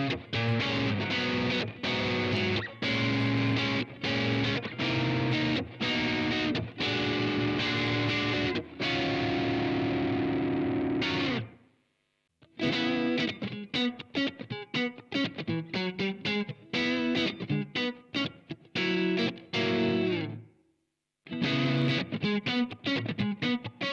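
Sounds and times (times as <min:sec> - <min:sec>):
distorted electric guitar: 0:00.0 - 0:11.6, 0:12.5 - 0:20.4, 0:21.3 - 0:23.9.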